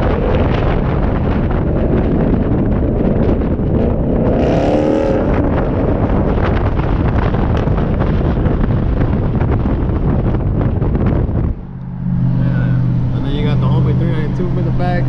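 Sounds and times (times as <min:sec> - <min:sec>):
car engine and road noise: 0:00.0 - 0:15.0
wind buffeting microphone: 0:00.0 - 0:15.0.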